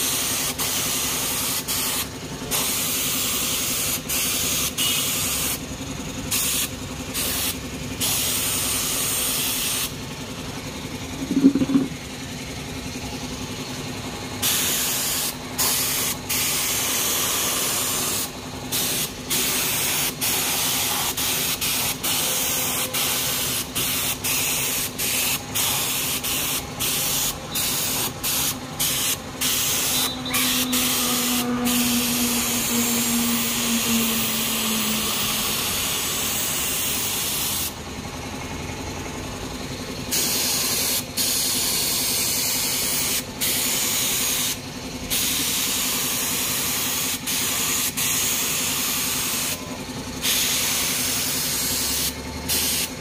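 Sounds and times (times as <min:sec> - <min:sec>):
spray paint hissing: 0:00.0 - 0:05.6, 0:06.3 - 0:09.9, 0:14.4 - 0:37.8, 0:40.1 - 0:49.6, 0:50.2 - 0:53.0.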